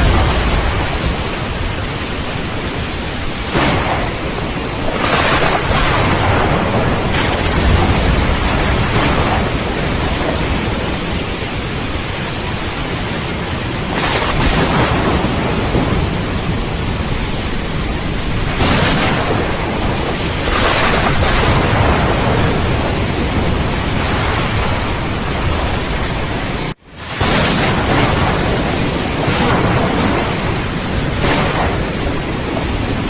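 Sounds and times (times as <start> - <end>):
heavy rain falling: 0.0 - 33.0
thunder rumbling: 0.0 - 33.0.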